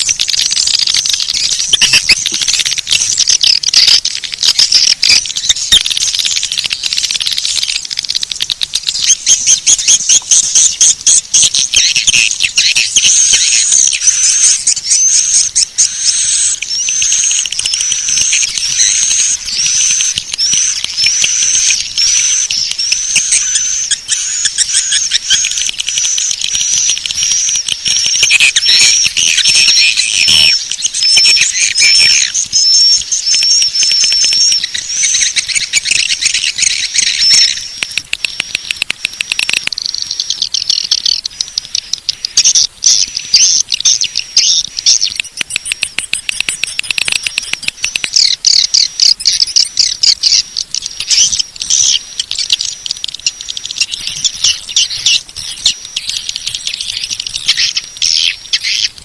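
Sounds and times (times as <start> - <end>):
swiftlets twittering: 0.0 - 59.0.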